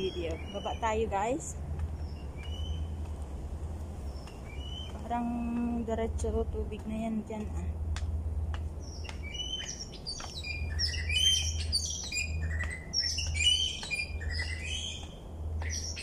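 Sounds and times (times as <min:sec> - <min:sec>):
birds chirping: 0:00.0 - 0:07.6, 0:08.3 - 0:16.0
steady low rumble: 0:00.0 - 0:16.0.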